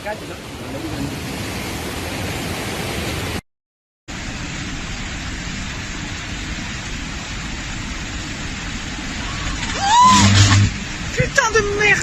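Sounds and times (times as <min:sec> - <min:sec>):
heavy rain: 0:00.0 - 0:03.4, 0:04.1 - 0:12.0.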